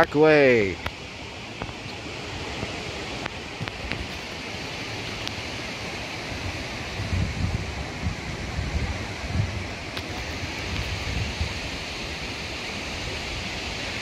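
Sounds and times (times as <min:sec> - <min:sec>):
wind rushing through trees: 0:00.0 - 0:14.0
wind buffeting microphone: 0:00.7 - 0:14.0.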